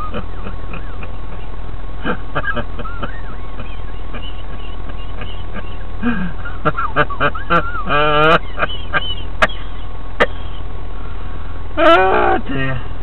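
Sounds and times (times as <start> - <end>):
man laughing: 0.0 - 10.6, 11.8 - 12.8.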